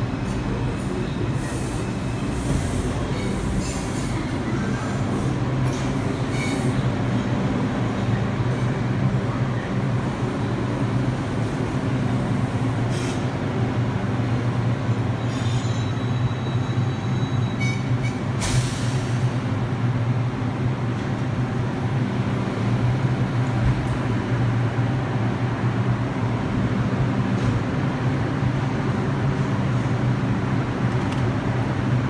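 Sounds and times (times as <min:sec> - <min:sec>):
subway train humming: 0:00.0 - 0:32.0.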